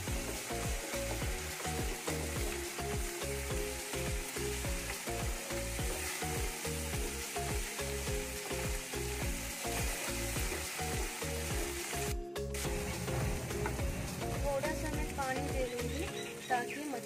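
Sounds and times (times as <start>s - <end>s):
background music with beat: 0.0s - 16.9s
paste sizzling in oil: 0.0s - 17.0s.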